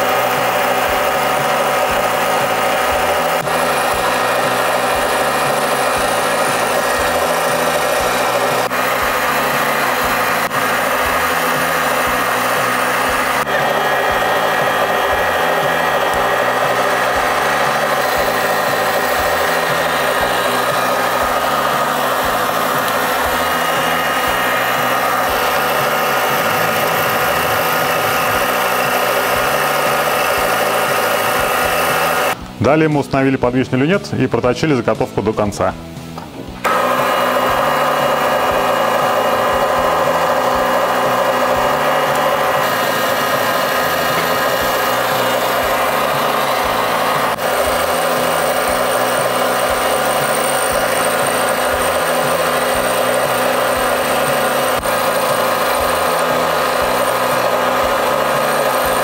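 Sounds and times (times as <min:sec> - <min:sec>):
metal lathe cutting: 0:00.0 - 0:32.4, 0:36.6 - 0:59.0
background music with bass: 0:00.0 - 0:59.0.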